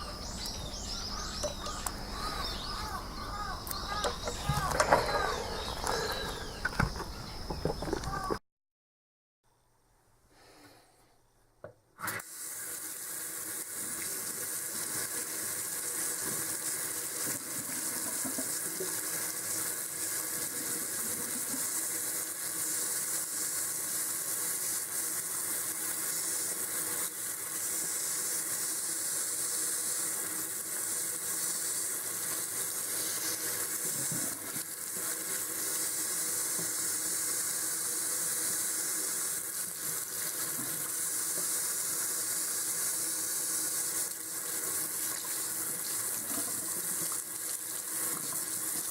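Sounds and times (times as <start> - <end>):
water running from a tap: 3.4 - 8.4, 12.2 - 48.9.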